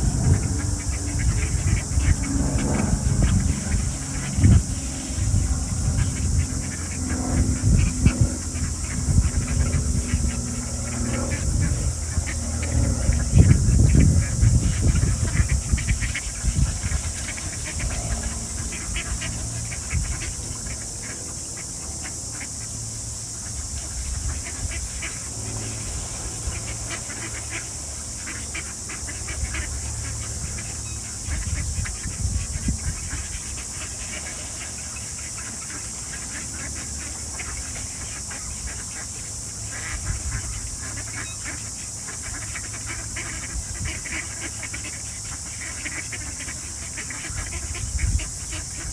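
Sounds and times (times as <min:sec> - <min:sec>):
ducks quacking: 0:00.0 - 0:48.9
geese honking: 0:00.0 - 0:48.9
steady high hiss: 0:00.0 - 0:48.9.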